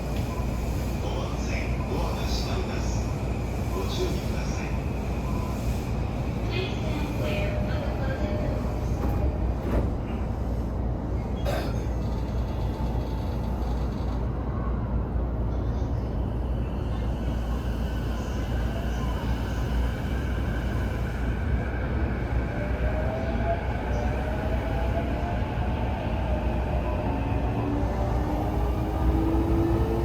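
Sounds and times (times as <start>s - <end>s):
train wheels rumbling on rail: 0.0s - 14.4s, 16.8s - 30.0s.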